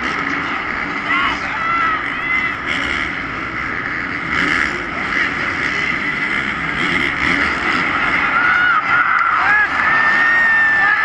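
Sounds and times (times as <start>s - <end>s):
large crowd noise: 0.0s - 11.0s
motorcycle engines racing: 0.0s - 11.0s.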